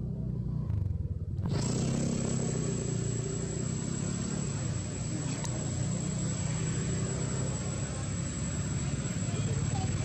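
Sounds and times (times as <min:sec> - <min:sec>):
engine running low rumble: 0:00.0 - 0:10.0
high-pitched whine: 0:00.0 - 0:10.0.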